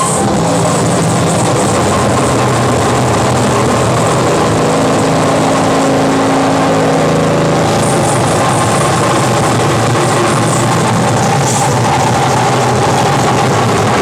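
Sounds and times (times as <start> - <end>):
distorted noise music: 0.0 - 14.0
low droning hum: 0.0 - 14.0.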